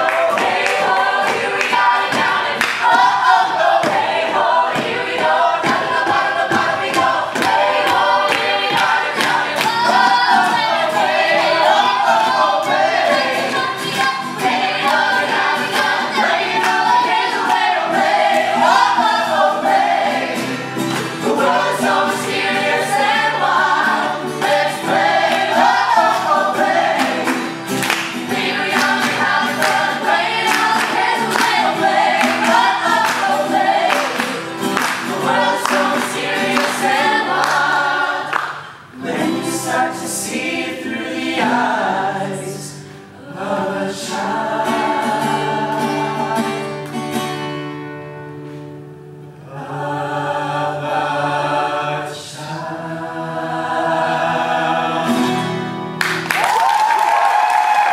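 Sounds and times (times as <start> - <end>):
singers singing in harmony: 0.0 - 47.0, 49.4 - 56.0
acoustic guitars strumming: 0.0 - 56.3.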